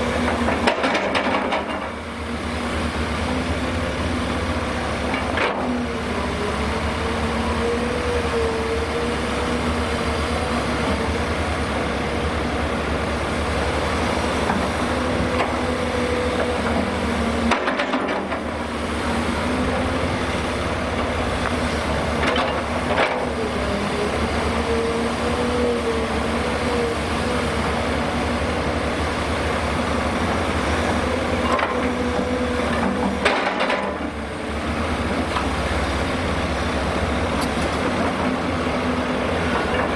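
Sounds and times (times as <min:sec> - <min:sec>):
excavator diesel engine under load: 0:00.0 - 0:39.9.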